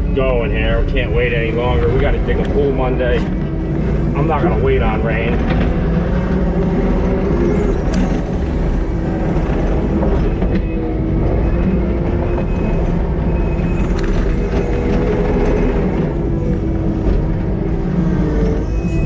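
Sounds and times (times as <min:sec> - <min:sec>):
diesel engine running: 0:00.0 - 0:19.0
steady whine: 0:00.0 - 0:19.0.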